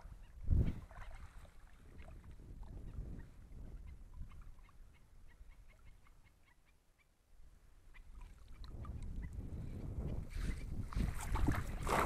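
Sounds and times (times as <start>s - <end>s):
wind rumbling on microphone: 0.0s - 6.0s, 7.9s - 12.0s.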